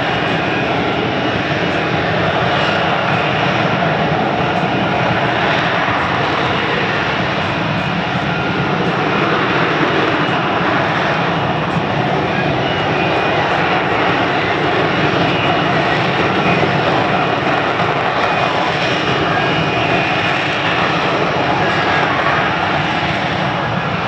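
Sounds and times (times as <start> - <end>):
jet engine roaring: 0.0 - 24.0.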